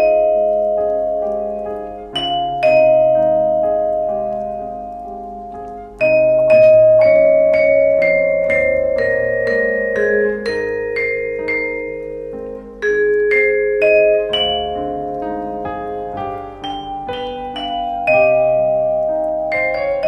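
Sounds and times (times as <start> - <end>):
vibraphone melody: 0.0 - 20.0.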